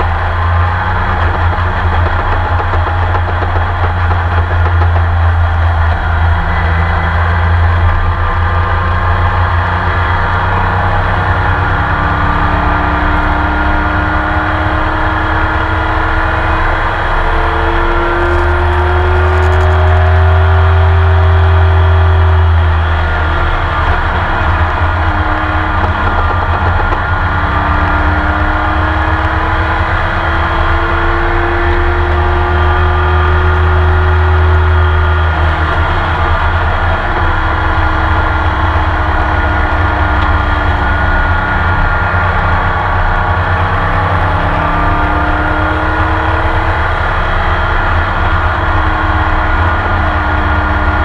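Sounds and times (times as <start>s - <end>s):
racing engine at full throttle: 0.0s - 51.0s.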